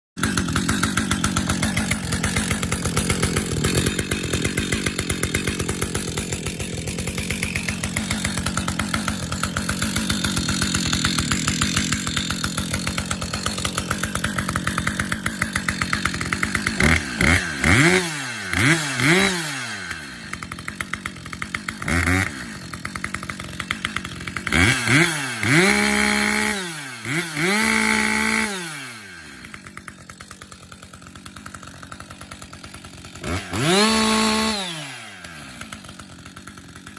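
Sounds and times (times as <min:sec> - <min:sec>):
chainsaw revving: 0:00.2 - 0:36.9.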